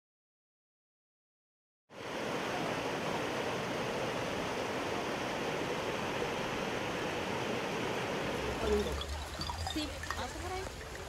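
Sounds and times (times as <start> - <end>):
floodwater rushing: 2.0 - 11.0.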